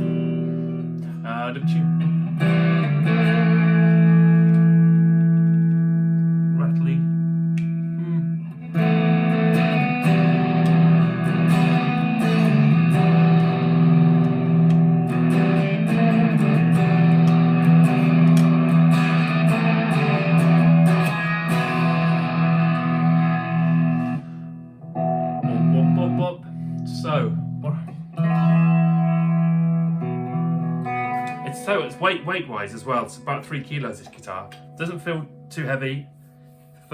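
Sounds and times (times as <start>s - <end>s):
electric guitar chords strummed: 0.0s - 36.9s.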